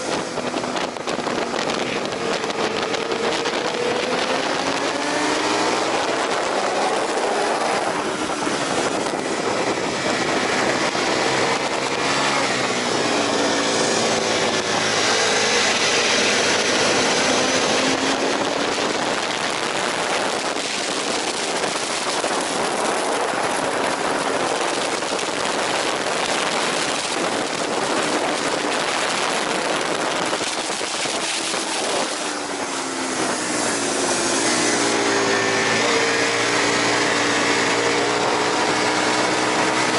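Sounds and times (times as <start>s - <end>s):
heavy wind rush: 0.0s - 39.9s
motorcycle engine revving: 0.0s - 39.9s.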